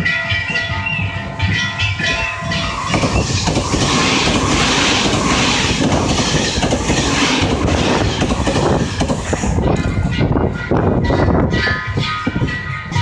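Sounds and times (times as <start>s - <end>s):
train passing at speed: 0.0s - 13.0s
wheels clacking over rail joints: 0.0s - 13.0s.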